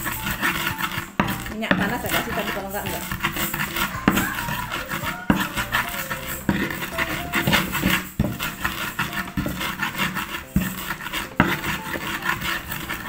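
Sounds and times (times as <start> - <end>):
pestle knocking: 0.0 - 13.0
stone pestle grinding in mortar: 0.0 - 13.0.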